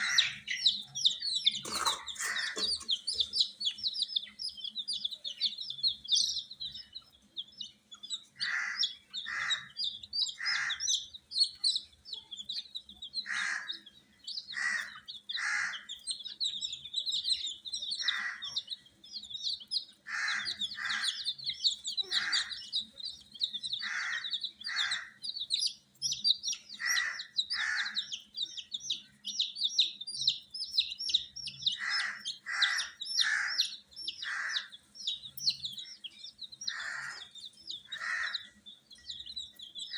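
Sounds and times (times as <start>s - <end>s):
louder lower chick calls: 0.0s - 7.7s, 8.3s - 11.9s, 12.5s - 39.9s
baby chicks peeping: 0.0s - 39.9s.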